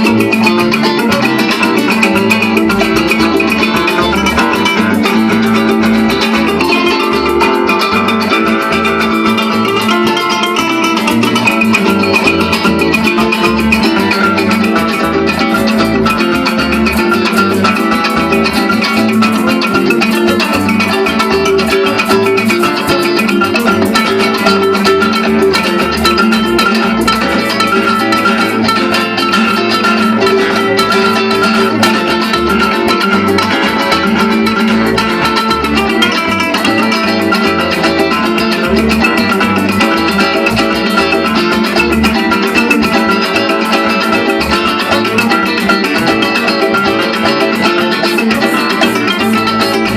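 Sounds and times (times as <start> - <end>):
bandola fast picked runs: 0.0 - 49.9
bass line: 0.0 - 49.9.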